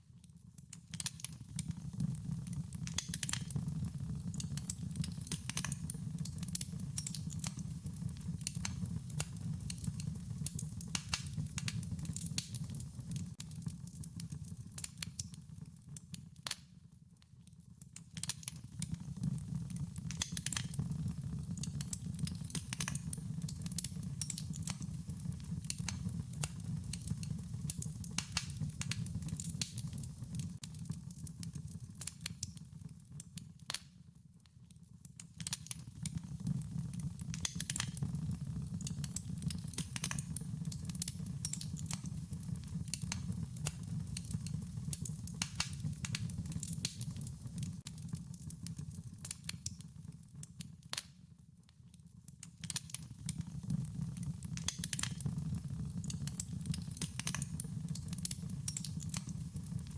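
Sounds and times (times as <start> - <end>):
wood fire crackling: 0.3 - 16.8, 17.6 - 34.0, 35.0 - 51.2, 52.4 - 59.9.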